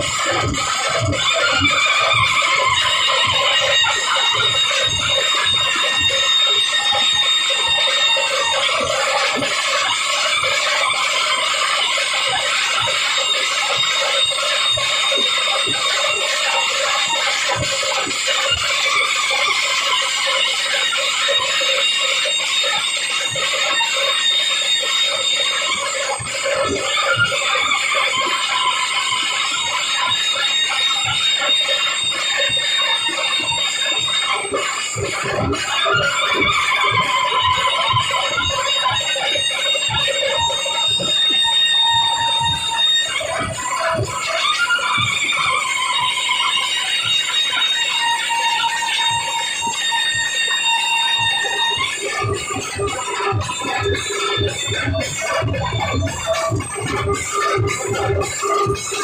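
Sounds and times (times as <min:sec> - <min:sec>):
distorted band music on loudspeakers: 0:00.0 - 0:59.0
drum beaten with sticks: 0:00.0 - 0:59.0
high wavering melody: 0:00.0 - 0:59.0.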